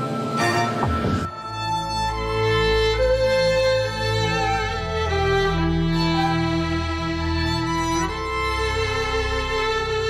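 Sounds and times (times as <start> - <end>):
bowed strings holding slow notes: 0.0 - 10.0
low sustained bass: 0.0 - 10.0.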